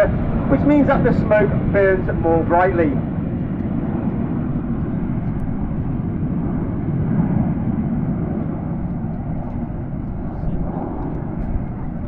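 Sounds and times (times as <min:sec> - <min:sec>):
jets flying in formation: 0:00.0 - 0:12.0.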